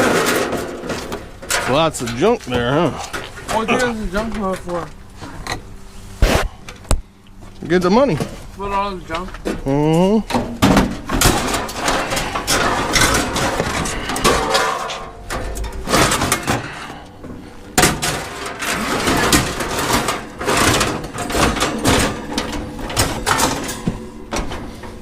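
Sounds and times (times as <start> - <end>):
scrap metal clanking and scraping: 0.0 - 6.6, 10.3 - 25.0.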